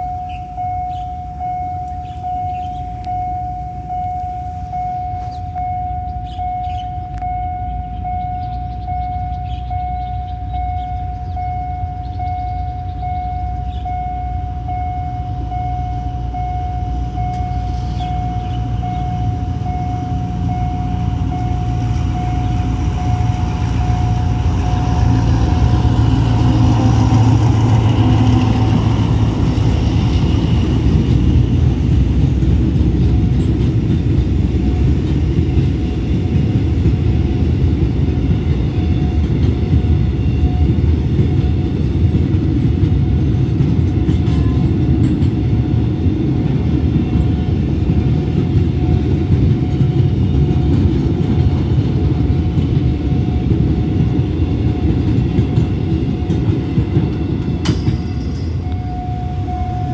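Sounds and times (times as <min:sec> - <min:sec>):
diesel locomotive engine passing: 0:00.0 - 0:59.9
freight train rumbling past: 0:00.0 - 0:59.9.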